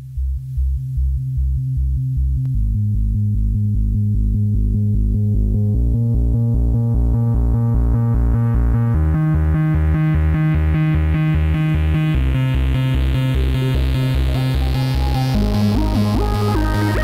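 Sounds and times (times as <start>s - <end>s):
pulsing synthesizer bass: 0.0s - 17.0s
synth notes: 2.5s - 17.0s.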